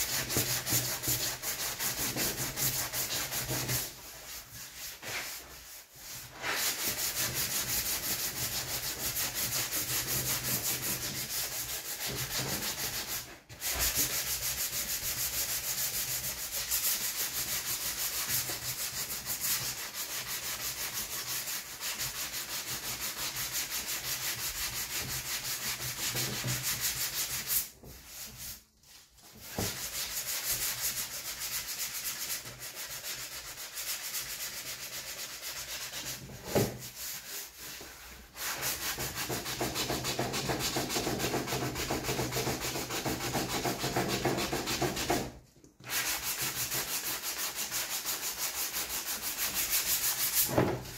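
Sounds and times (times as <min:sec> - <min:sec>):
sandpaper rubbing plastic: 0:00.0 - 0:50.9.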